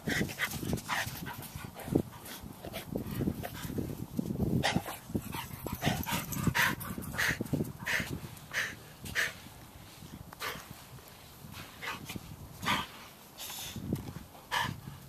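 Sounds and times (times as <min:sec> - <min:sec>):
dogs panting: 0:00.0 - 0:03.9, 0:04.6 - 0:09.5, 0:10.4 - 0:10.8, 0:11.6 - 0:13.6, 0:14.2 - 0:15.0.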